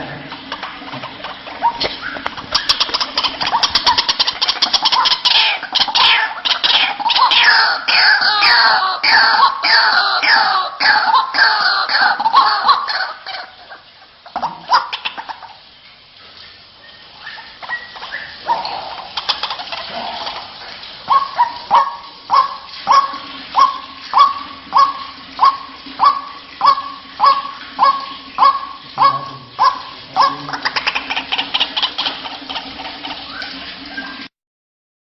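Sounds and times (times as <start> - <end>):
waterhen croaking calls: 0.0 - 34.3.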